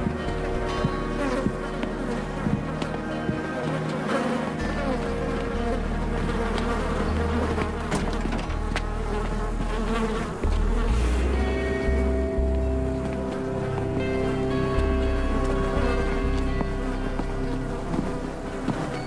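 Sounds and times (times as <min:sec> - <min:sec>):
flies buzzing: 0:00.0 - 0:19.0
low drone: 0:00.0 - 0:19.0.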